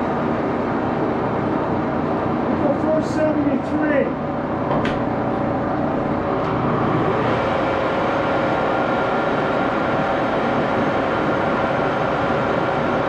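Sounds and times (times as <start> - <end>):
lathe running: 0.1 - 13.0.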